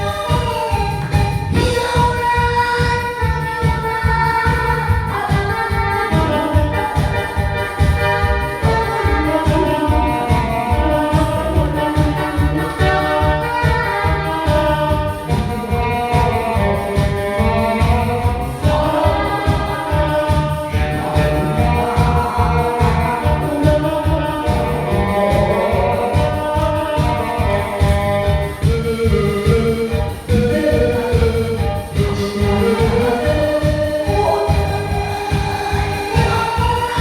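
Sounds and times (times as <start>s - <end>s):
backing track with fast beat: 0.0s - 37.0s
woman singing: 0.0s - 37.0s.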